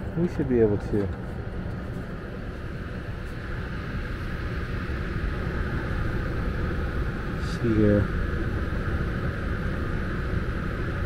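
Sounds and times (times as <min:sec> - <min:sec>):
air handler blower running: 0:00.0 - 0:11.0.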